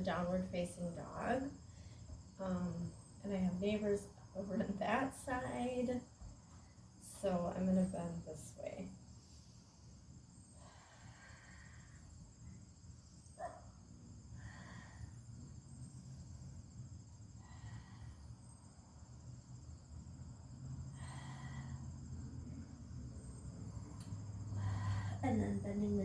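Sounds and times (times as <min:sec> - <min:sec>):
insects chorus pulsing: 0:00.0 - 0:26.0
low outdoor rumble: 0:00.0 - 0:26.0.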